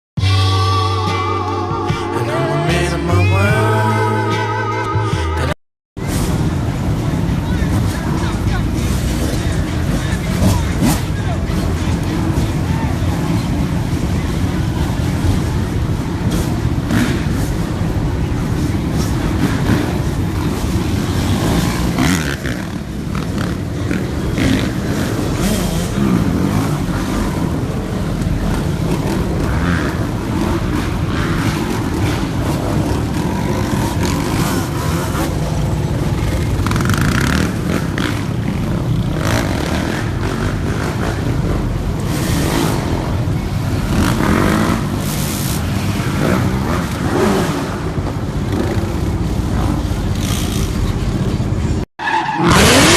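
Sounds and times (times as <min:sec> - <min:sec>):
motorcycle engines revving: 0:00.2 - 0:52.9
car engines revving: 0:01.0 - 0:52.9.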